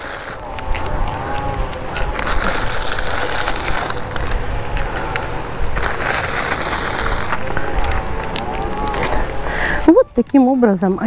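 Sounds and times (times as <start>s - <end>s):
soil being pressed and shifted: 0.0s - 11.0s.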